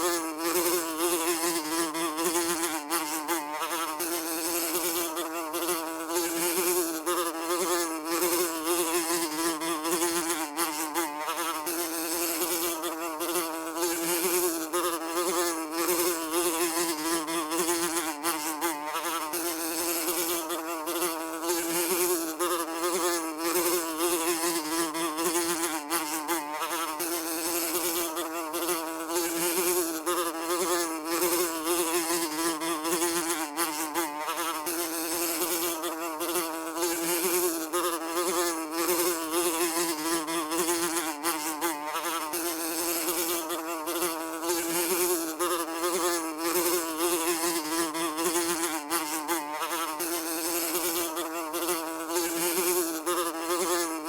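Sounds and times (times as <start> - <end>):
housefly buzzing: 0.0 - 54.0.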